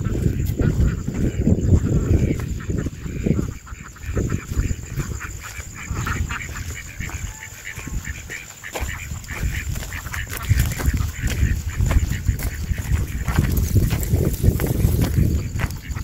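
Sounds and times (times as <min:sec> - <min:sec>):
duck quacking: 0:00.0 - 0:16.0.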